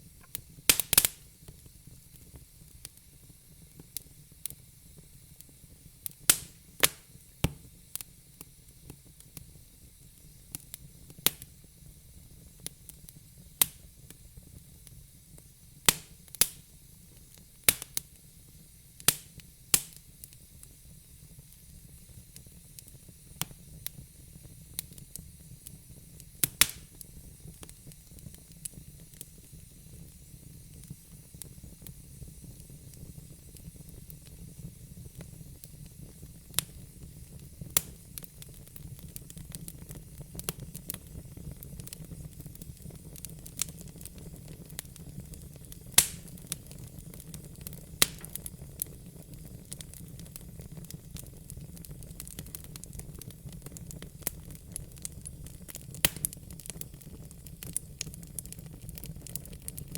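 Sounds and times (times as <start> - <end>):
faint low hiss: 0.0 - 58.7
fire crackling: 0.0 - 59.9.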